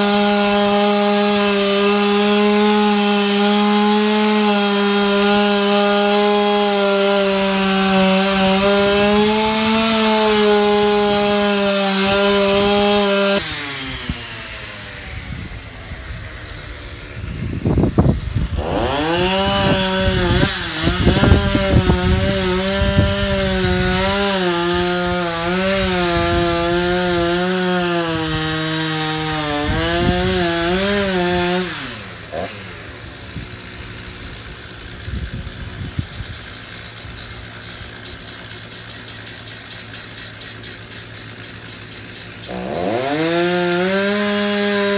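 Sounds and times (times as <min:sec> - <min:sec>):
chainsaw cutting: 0:00.0 - 0:44.9.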